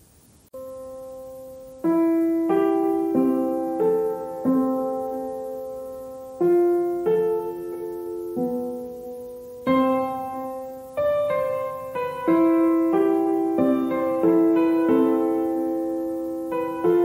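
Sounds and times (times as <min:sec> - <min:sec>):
slow soft piano music: 0:00.5 - 0:17.0.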